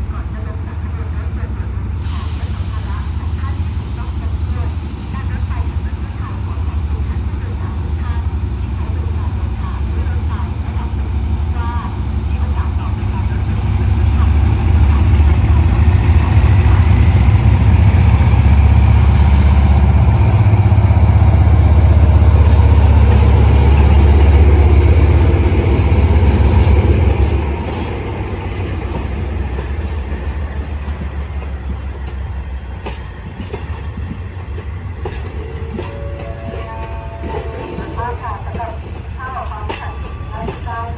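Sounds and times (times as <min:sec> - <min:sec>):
diesel train engine rumble: 0:00.0 - 0:40.9.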